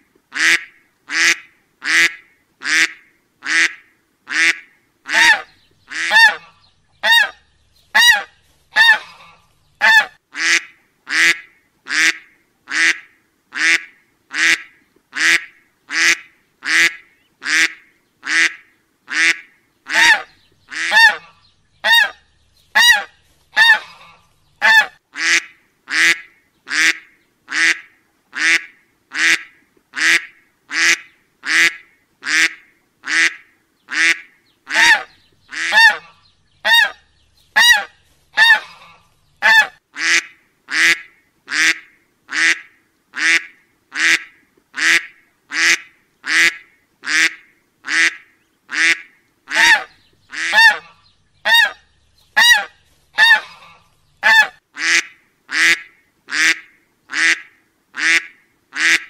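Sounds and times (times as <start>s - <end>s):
duck quacking: 0.3s - 7.4s, 8.0s - 37.0s, 37.6s - 51.8s, 52.4s - 59.0s.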